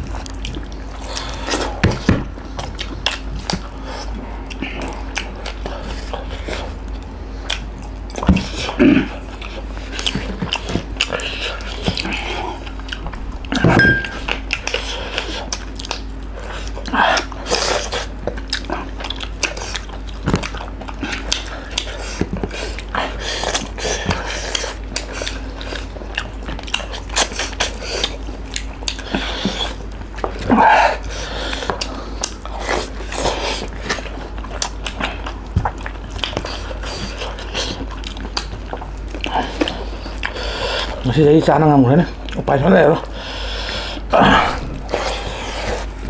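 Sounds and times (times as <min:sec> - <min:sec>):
steady low hum: 0:00.0 - 0:30.4, 0:31.0 - 0:46.0
people chewing food: 0:00.0 - 0:46.0.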